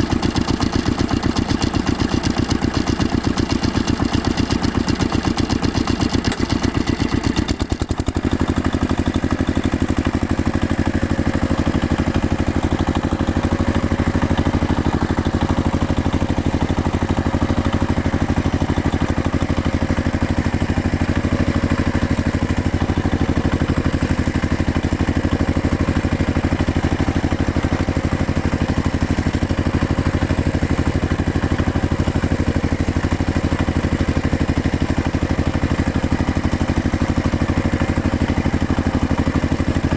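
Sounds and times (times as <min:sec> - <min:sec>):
machine engine running: 0:00.0 - 0:08.9, 0:09.8 - 0:39.9.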